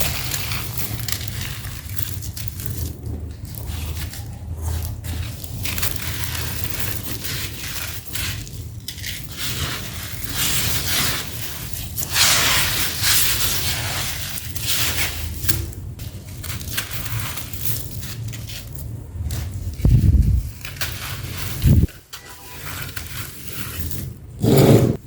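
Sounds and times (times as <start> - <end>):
cement chunks crumbling and crunching: 0.0 - 24.5.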